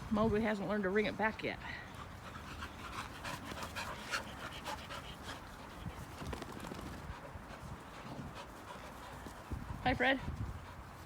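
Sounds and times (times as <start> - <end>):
dogs panting: 1.6 - 11.0.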